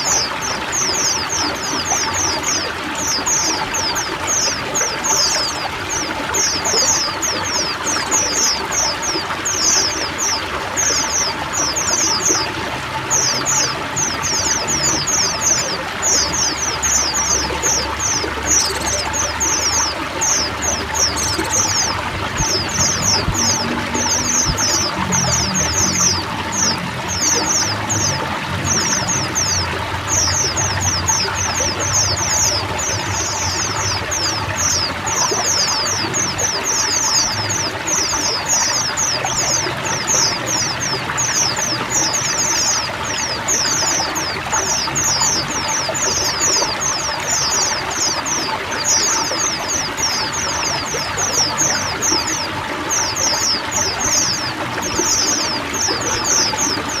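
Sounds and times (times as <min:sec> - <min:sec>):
birds chattering: 0:00.0 - 0:57.0
water pouring and trickling: 0:00.0 - 0:57.0.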